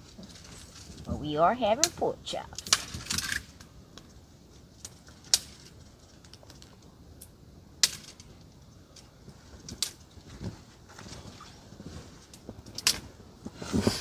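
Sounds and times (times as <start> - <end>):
faint steady background hiss: 0.0 - 14.0.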